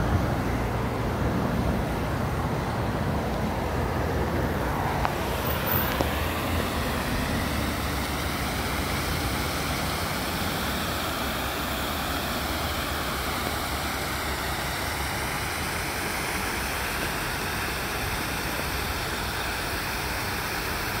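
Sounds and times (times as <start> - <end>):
water rushing over weir: 0.0 - 21.0.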